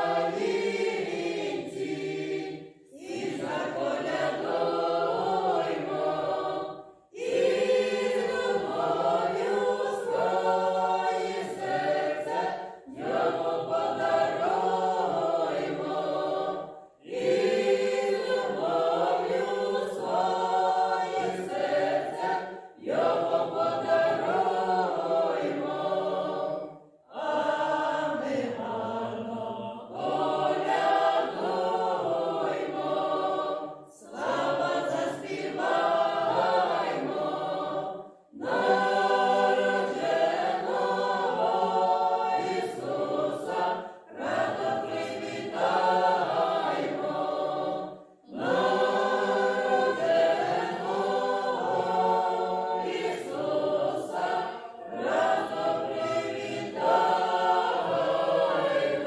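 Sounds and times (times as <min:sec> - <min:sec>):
mixed choir singing a cappella: 0:00.0 - 0:59.0.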